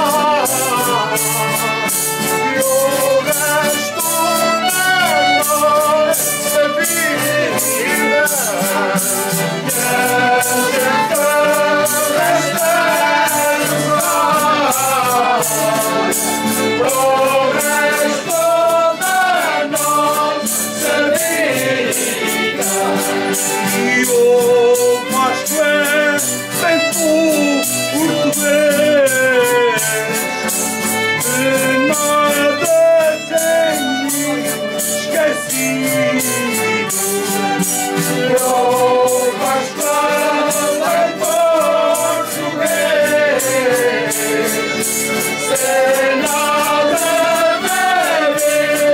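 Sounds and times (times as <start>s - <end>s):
accordion: 0.0s - 48.9s
quick steady beat: 0.0s - 48.9s
voices singing: 0.0s - 48.9s.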